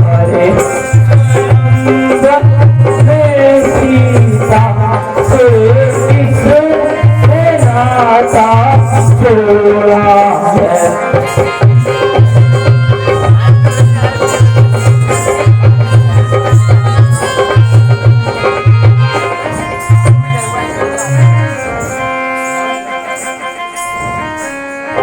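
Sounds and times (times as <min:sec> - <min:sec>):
drum beating: 0:00.0 - 0:25.0
instrumental melody: 0:00.0 - 0:25.0.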